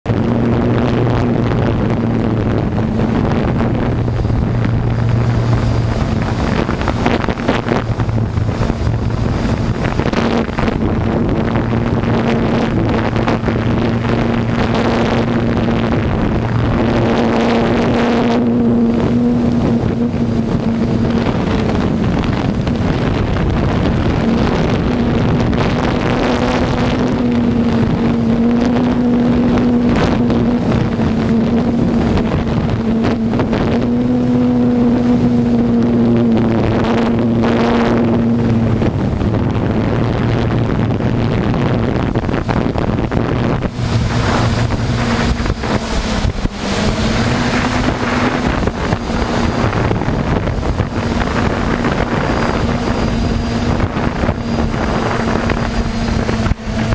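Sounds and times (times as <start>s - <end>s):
combine harvester drone: 0.0s - 56.9s
wavering hum: 0.0s - 56.9s.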